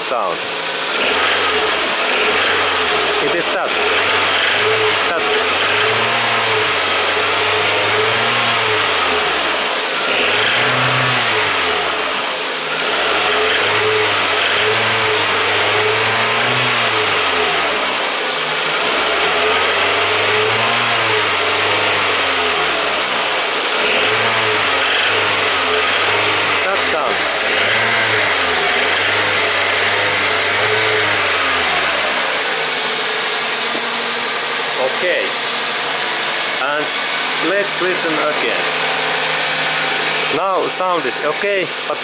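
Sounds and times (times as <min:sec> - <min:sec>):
car engine revving: 0:00.1 - 0:41.7
engine knocking: 0:00.4 - 0:42.0.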